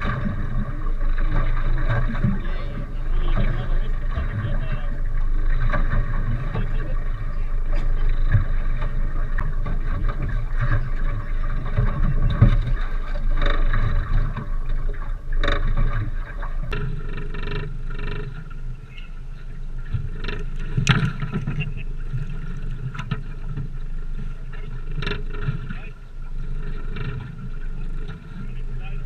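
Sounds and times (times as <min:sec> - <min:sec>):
low rumble around boat: 0:00.0 - 0:29.0.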